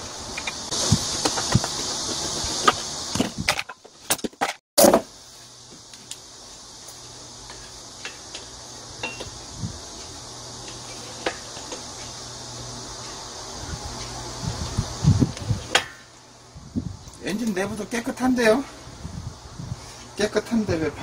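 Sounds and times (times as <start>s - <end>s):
high hiss: 0.0s - 4.1s, 4.8s - 21.0s.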